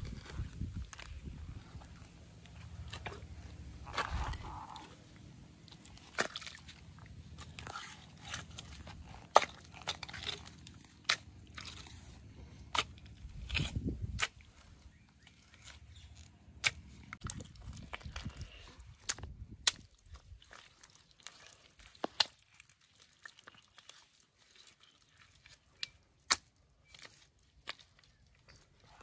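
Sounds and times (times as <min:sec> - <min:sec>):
hands squelching through wet mud: 0:00.0 - 0:29.0.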